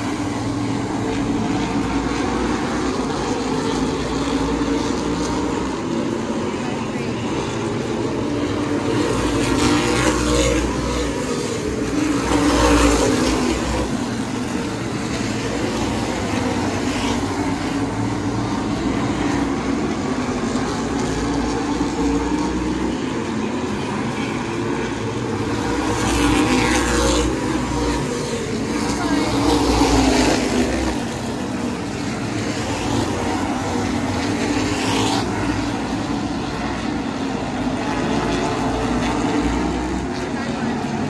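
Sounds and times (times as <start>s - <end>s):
race car engines passing: 0.0s - 41.0s.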